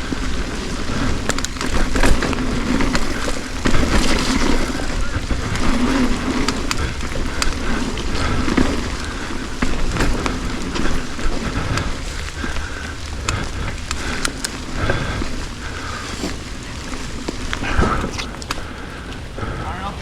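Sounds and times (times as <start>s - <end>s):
wind and rolling tyres: 0.0s - 20.0s.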